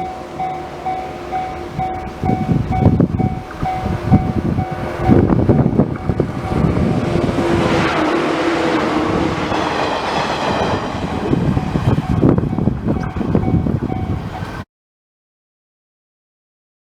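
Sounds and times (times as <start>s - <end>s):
train wheels knocking on rails: 0.0s - 14.3s
faint train whine: 0.0s - 14.6s.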